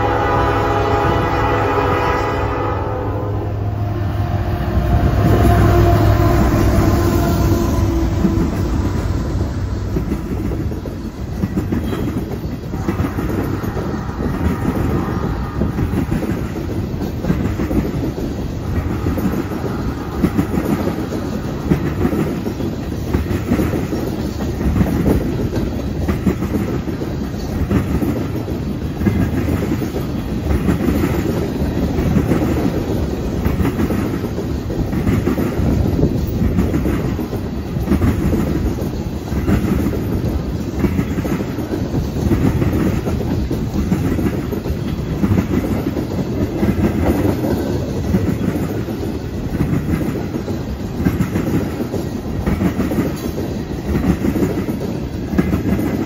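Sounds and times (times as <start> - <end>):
train wheels clattering over rails: 4.1 - 56.0.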